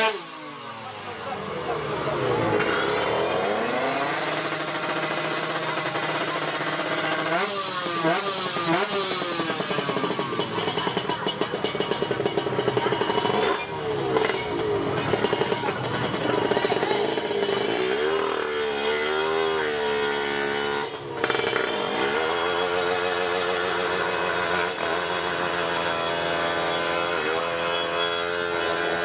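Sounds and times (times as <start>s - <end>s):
racing motorcycle engines revving: 0.0s - 29.0s.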